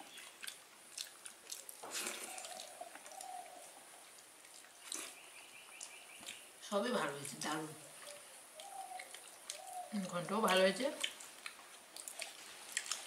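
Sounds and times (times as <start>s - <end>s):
faint eating sounds: 0.0s - 13.0s
rustle: 0.0s - 13.0s.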